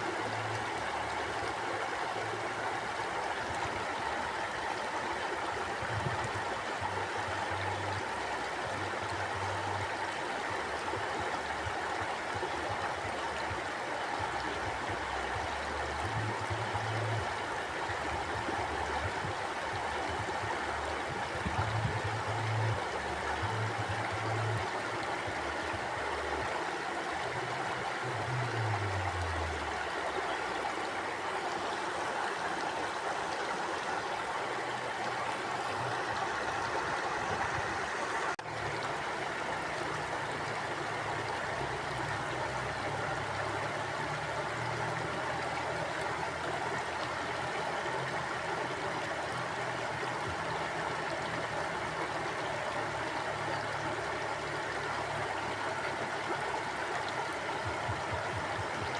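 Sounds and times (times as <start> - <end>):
low water gurgling: 0.0 - 58.9
river water rushing: 0.0 - 58.9.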